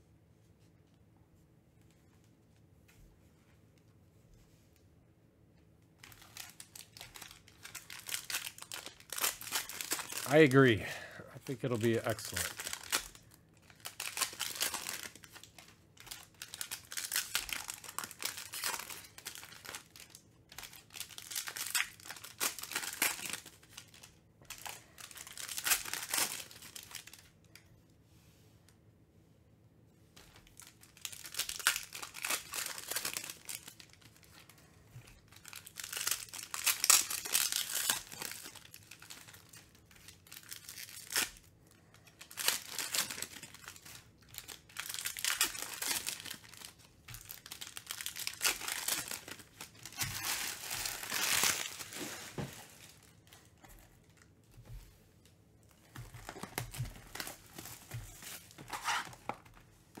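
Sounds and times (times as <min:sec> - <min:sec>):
foil wrappers tearing and crinkling: 0:06.0 - 0:10.8, 0:11.4 - 0:27.3, 0:30.3 - 0:54.2, 0:55.8 - 1:00.0.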